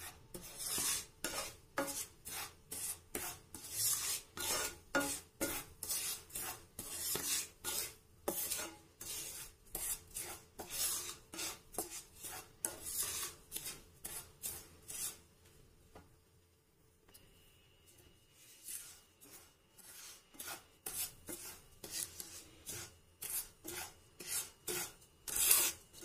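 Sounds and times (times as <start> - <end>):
wooden spatula scraping frying pan: 0.0 - 15.2, 18.4 - 26.0.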